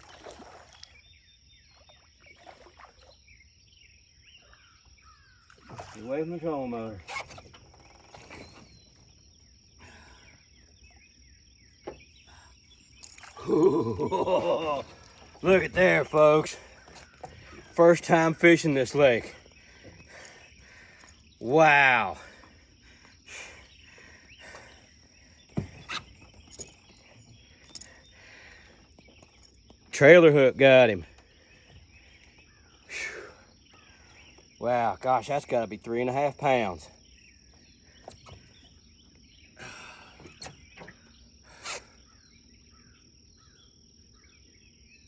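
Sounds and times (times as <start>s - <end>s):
high insect trill: 1.0s - 45.0s.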